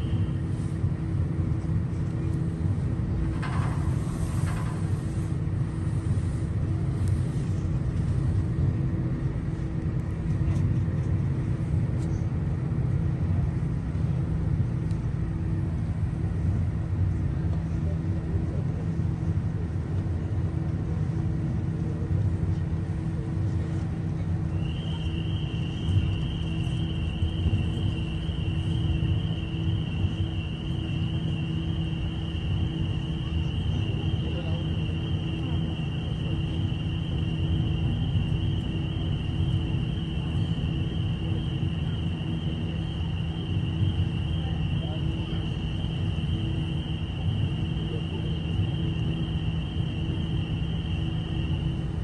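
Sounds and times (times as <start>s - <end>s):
ferry engine rumble and hum: 0.0s - 52.0s.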